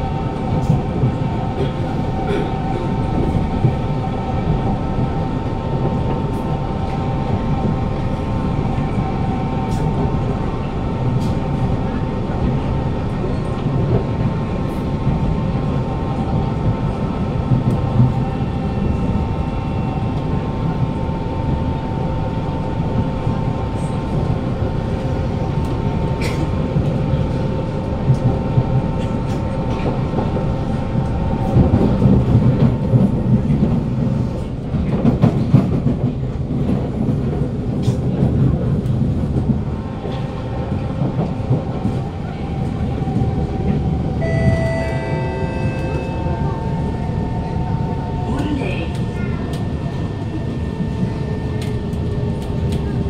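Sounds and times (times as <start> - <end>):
wheel and rail rumble: 0.0 - 53.0.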